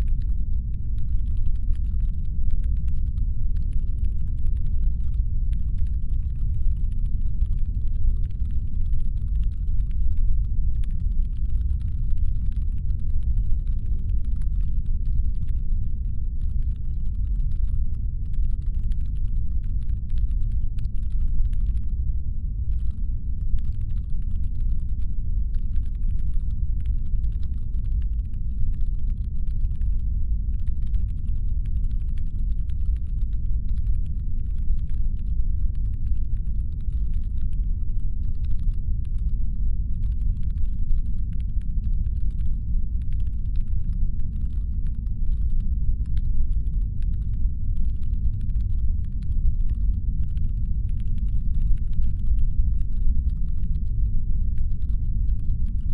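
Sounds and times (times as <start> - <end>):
faint rapid irregular clicking: 0.0 - 22.0, 22.6 - 55.9
deep spaceship engine hum: 0.0 - 55.9.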